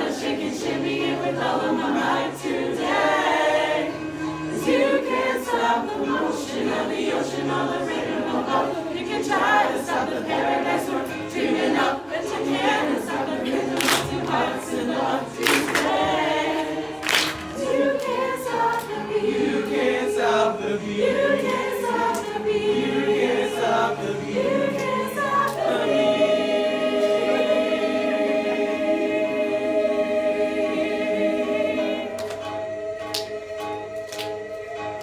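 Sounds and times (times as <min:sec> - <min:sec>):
backing music: 0:00.0 - 0:35.0
choir singing show tune: 0:00.0 - 0:35.0.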